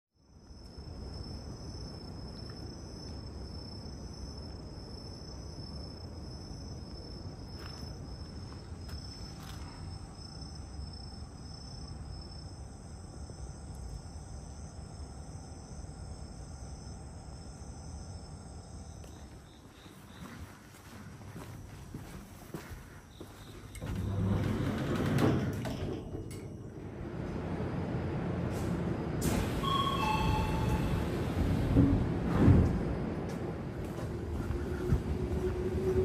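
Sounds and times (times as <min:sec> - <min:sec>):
crickets chirping: 0:00.2 - 0:36.0.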